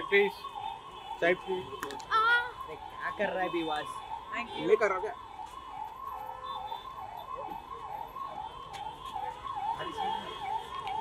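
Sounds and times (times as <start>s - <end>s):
electronic siren wailing: 0.0s - 11.0s.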